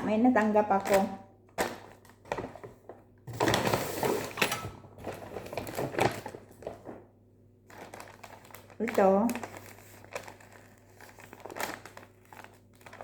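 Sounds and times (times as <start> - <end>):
gift packaging rustling and clicking: 0.2 - 13.0.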